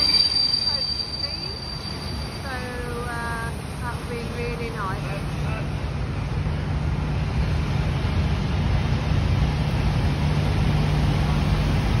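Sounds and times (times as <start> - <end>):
train coaches rumbling past: 0.0 - 12.0.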